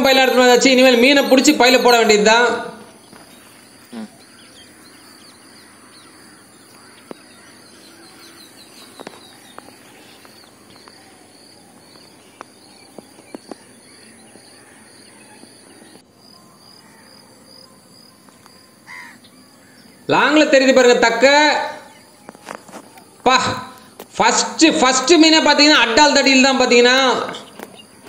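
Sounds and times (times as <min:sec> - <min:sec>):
birds: 0:00.0 - 0:28.0
insects: 0:00.0 - 0:28.0.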